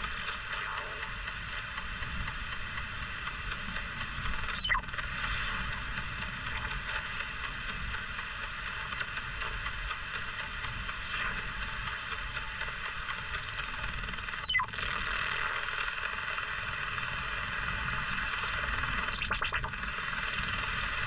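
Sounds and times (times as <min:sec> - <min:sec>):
radio band noise hiss: 0:00.0 - 0:21.0.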